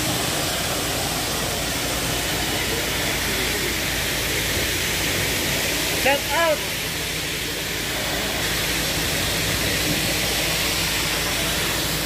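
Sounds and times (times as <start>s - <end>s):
broad hiss: 0.0s - 12.0s
diesel engine rumble: 0.0s - 12.0s.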